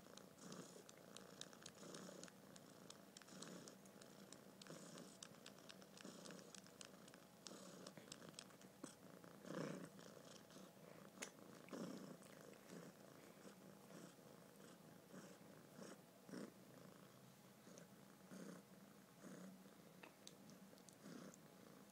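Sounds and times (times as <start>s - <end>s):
kitten purring: 0.0s - 21.9s.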